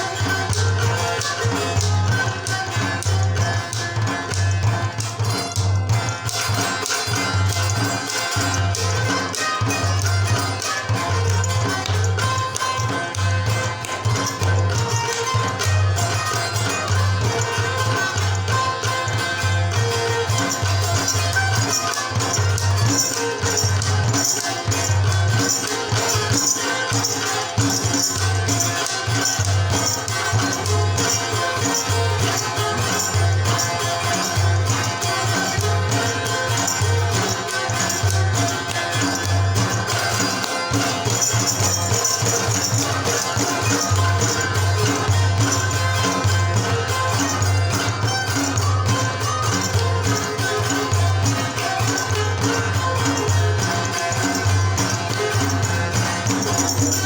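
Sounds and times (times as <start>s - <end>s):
jingling percussion: 0.0s - 57.0s
sitar folk music: 0.0s - 57.0s.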